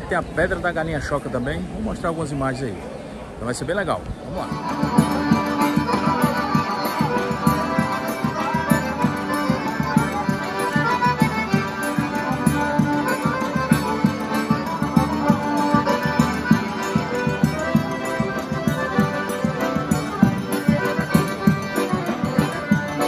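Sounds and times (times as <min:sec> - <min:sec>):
accordion ensemble playing folk tune: 0:03.0 - 0:23.0.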